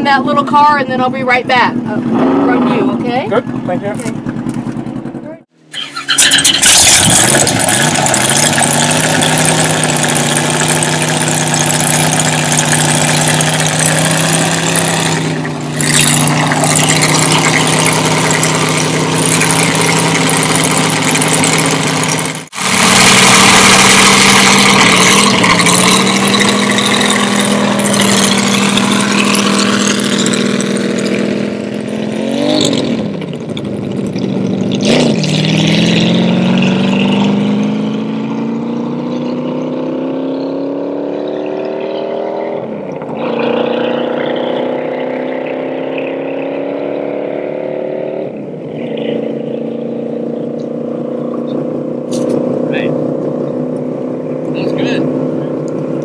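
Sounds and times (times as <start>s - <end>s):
race car engine: 0.0s - 56.0s.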